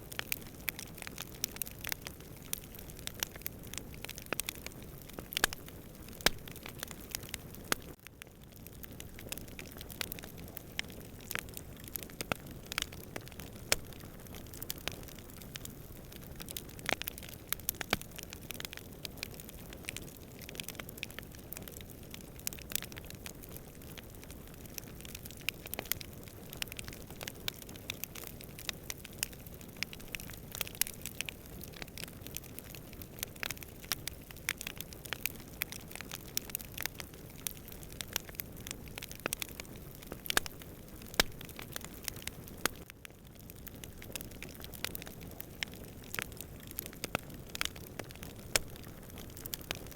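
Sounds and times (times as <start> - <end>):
low rumble of burning: 0.0 - 49.9
campfire pops and snaps: 0.1 - 42.9, 43.5 - 49.9.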